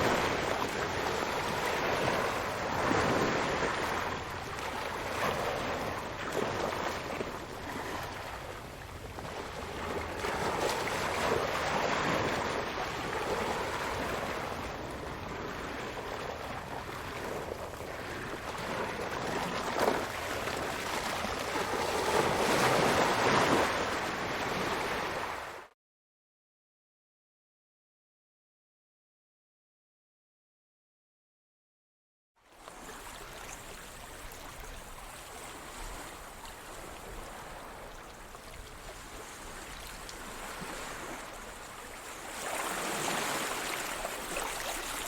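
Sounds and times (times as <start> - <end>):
ocean waves breaking: 0.0 - 25.7, 32.6 - 45.0.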